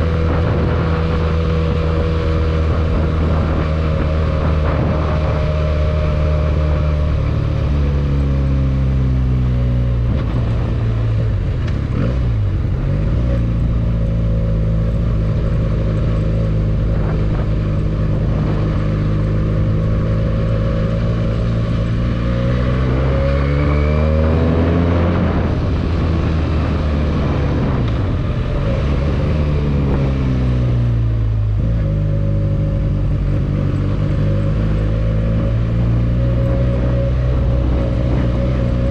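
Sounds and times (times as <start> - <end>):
motorcycle engine running: 0.0 - 23.0, 24.8 - 38.9.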